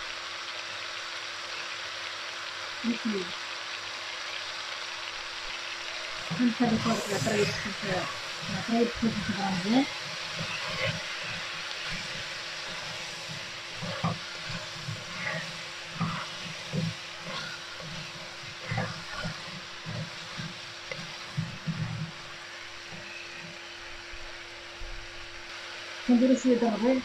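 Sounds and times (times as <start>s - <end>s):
vegetables sizzling in a pot: 0.0s - 27.0s.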